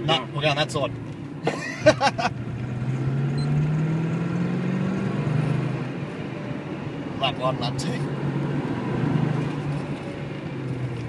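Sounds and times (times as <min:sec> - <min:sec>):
car engine accelerating: 0:00.9 - 0:11.0.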